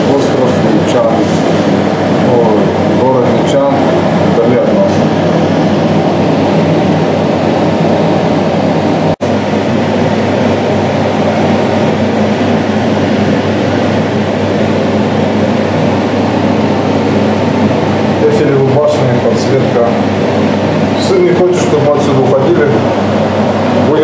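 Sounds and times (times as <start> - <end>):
ride machinery hum and rumble: 0.0 - 24.0.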